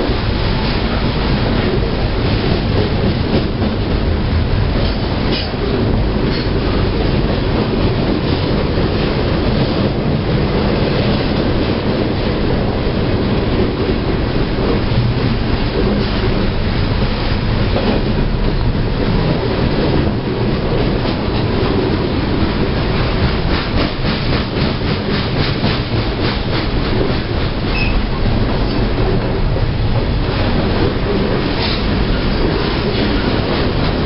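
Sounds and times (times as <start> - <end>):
freight train rumbling past: 0.0 - 34.0
wheels clicking over rail joints: 0.1 - 34.0.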